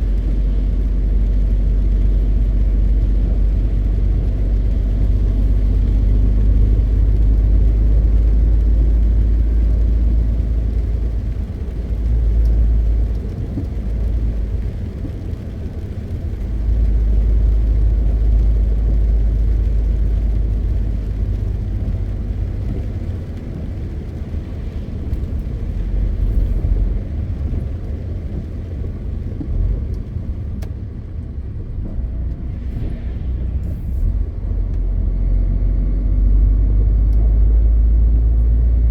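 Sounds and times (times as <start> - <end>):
road noise: 0.0 - 38.9
truck diesel engine rumble: 0.0 - 38.9.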